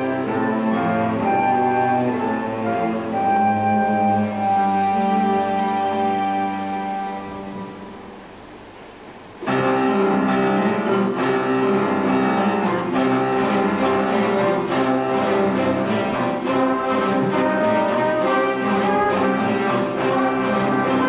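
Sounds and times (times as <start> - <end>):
orchestral bowed strings: 0.0 - 8.4, 9.5 - 21.0
piano playing: 0.0 - 21.0.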